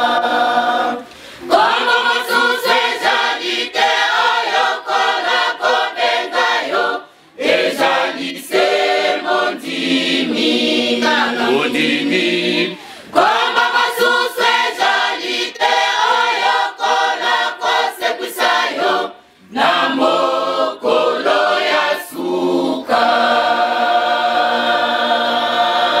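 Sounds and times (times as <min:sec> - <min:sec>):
women's choir singing: 0:00.0 - 0:26.0.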